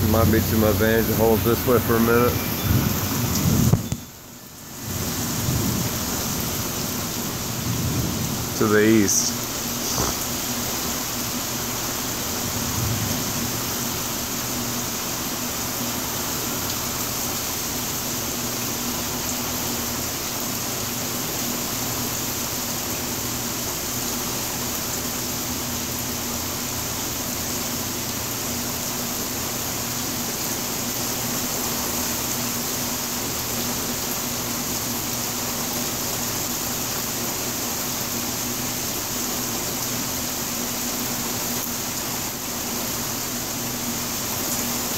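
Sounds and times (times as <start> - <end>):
steady rain hissing: 0.0 - 44.9.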